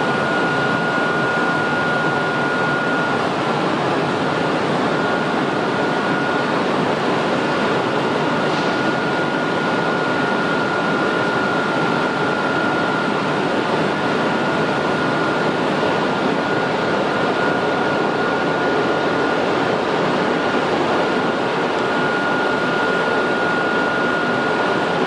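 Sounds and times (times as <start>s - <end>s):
cooling blowers rushing air: 0.0s - 25.0s
steady high whine: 0.0s - 25.0s.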